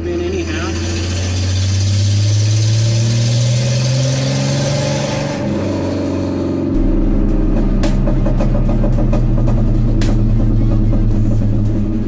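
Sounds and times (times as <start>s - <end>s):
truck engine accelerating: 0.0s - 12.0s.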